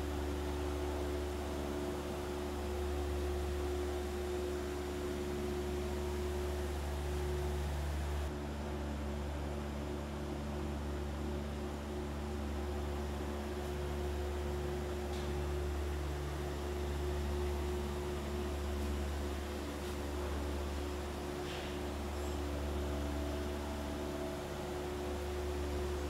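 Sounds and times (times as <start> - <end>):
sawmill machinery drone: 0.0 - 26.0.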